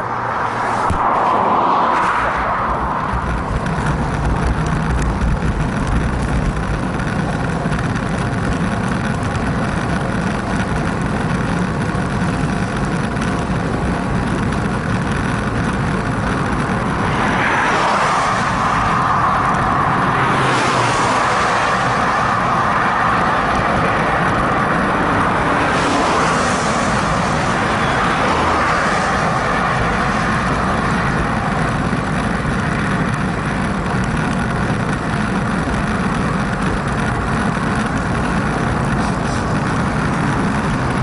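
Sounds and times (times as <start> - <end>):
bicycle road noise: 0.0 - 41.0
passing motor traffic: 0.0 - 41.0
wind buffeting microphone: 0.8 - 41.0.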